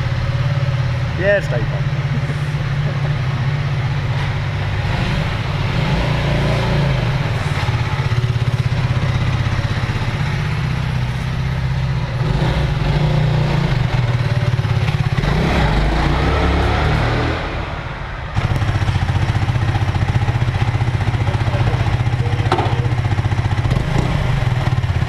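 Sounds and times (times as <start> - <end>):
motorcycle engine idling: 0.0 - 5.9, 6.6 - 15.4, 18.0 - 25.0.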